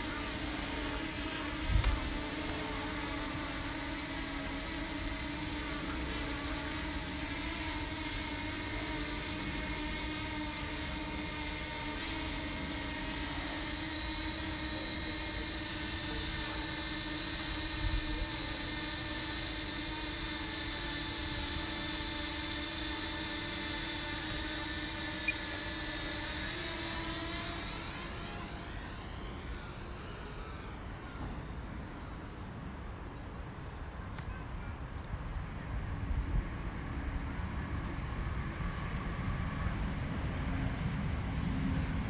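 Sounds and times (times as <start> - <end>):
drone propellers humming: 0.0 - 33.6, 35.4 - 42.0.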